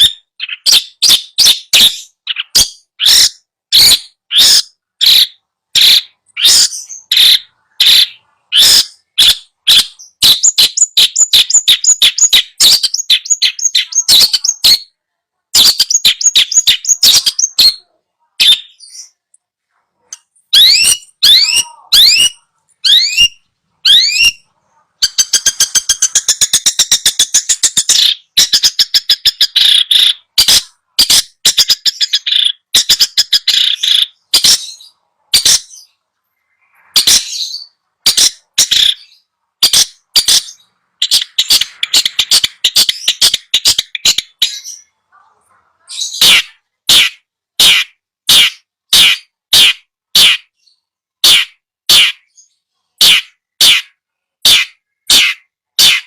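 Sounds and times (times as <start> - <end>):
bird chattering and trilling: 0.0 - 19.3, 20.0 - 56.0.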